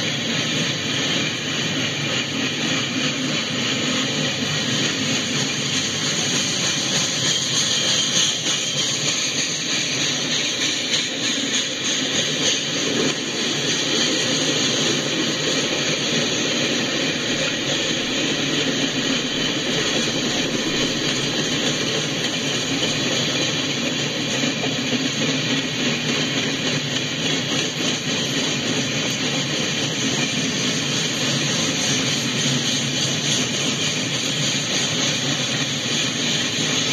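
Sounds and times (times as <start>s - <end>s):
freight train rumbling on rails: 0.0s - 36.9s.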